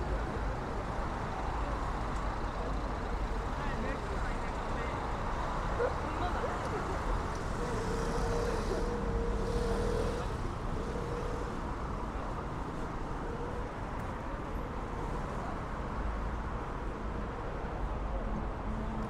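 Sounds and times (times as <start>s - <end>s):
steady engine hum: 0.0s - 15.5s
city street traffic: 0.0s - 19.0s.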